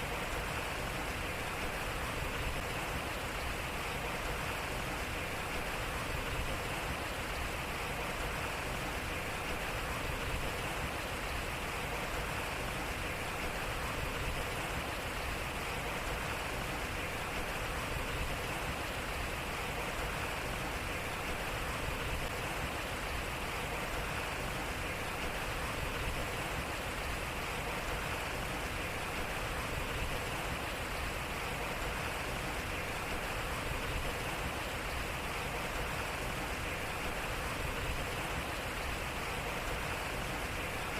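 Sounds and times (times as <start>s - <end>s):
water rushing at a water wheel: 0.0s - 40.9s.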